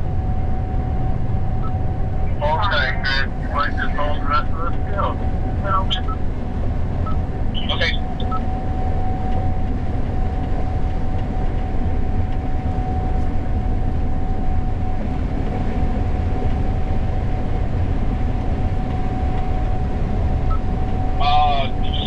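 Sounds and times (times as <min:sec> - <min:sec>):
combine harvester low drone: 0:00.0 - 0:22.0
steady machine whine: 0:00.0 - 0:22.0.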